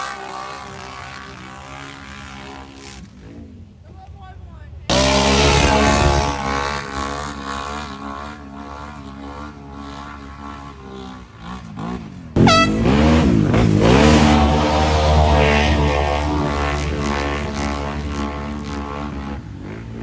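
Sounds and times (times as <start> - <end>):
atv engine running hard: 0.0 - 4.1, 4.8 - 20.0.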